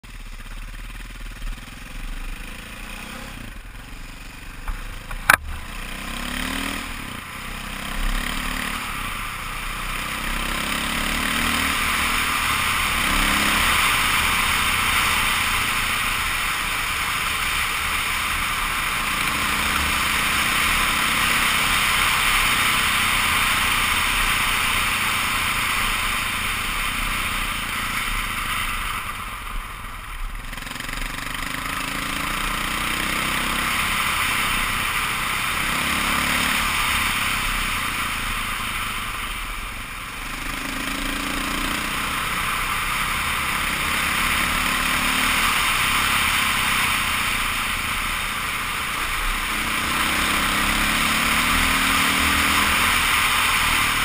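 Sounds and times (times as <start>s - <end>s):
dirt bike engine running: 0.0s - 54.0s
gravel road noise: 0.0s - 54.0s.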